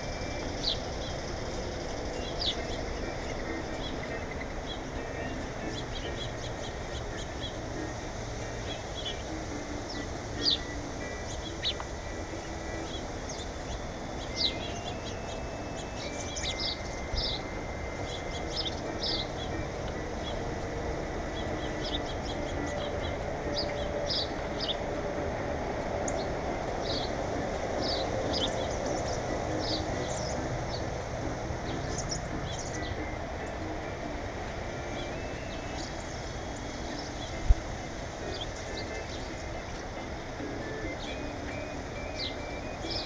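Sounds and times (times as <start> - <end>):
small birds chirping: 0.0 - 43.0
steady background hiss: 0.0 - 43.0.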